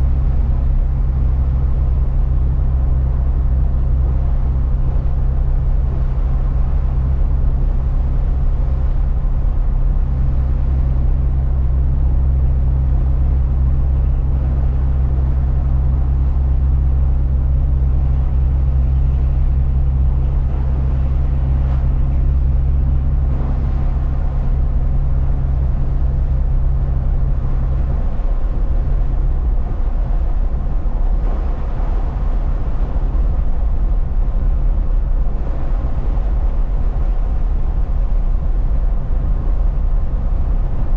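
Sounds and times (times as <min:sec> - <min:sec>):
road noise: 0:00.0 - 0:40.9
truck engine droning: 0:00.0 - 0:40.9.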